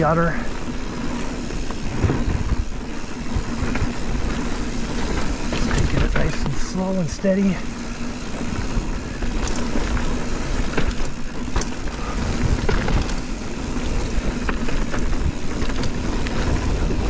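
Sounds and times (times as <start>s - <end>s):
bike chain and frame rattling: 0.0s - 17.0s
bike tyres rumbling on dirt: 0.0s - 17.0s.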